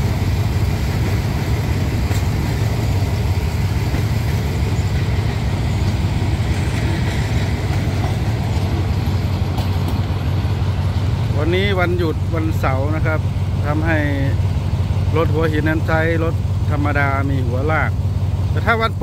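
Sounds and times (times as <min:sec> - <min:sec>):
diesel engine drone: 0:00.0 - 0:19.0
train coaches rumbling: 0:00.0 - 0:19.0.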